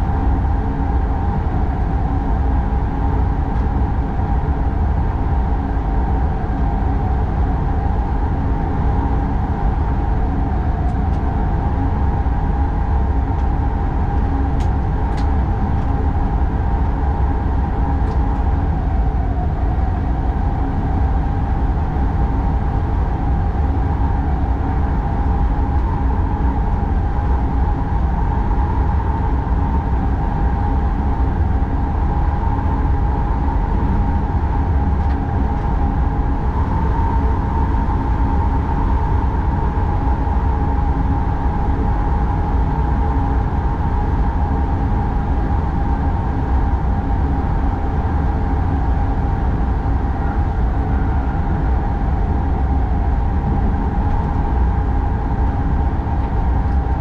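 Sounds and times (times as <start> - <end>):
steady train hum: 0.0 - 57.0.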